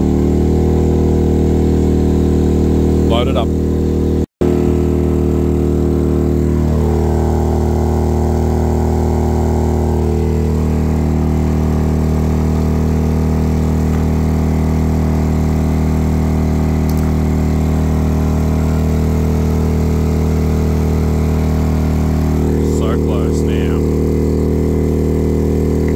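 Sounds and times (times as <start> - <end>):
generator engine running: 0.0 - 25.9.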